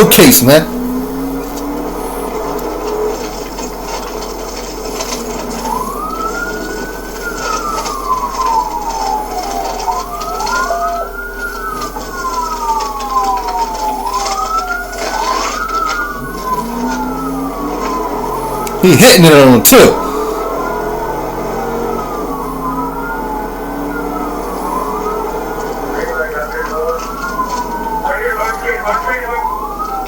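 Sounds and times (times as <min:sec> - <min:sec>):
police sirens wailing: 0:00.0 - 0:30.0.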